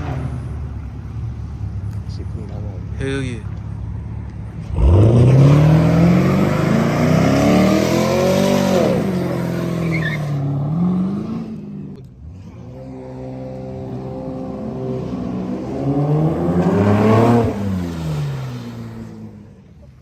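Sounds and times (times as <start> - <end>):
car engine revving: 0.0 - 19.7.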